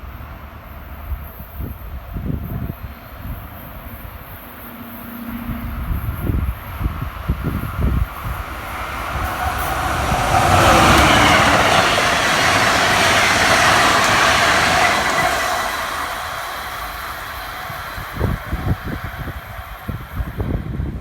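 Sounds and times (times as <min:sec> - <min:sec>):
train wheels rushing on rails: 0:00.0 - 0:21.0.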